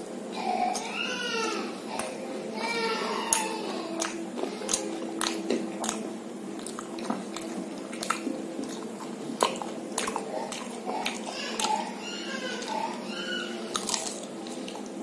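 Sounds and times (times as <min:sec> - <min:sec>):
chewing and crunching food: 0:01.9 - 0:15.0.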